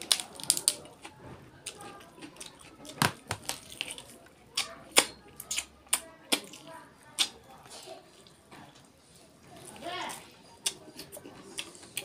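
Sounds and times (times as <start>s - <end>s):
wet eating and chewing: 0.0s - 12.0s.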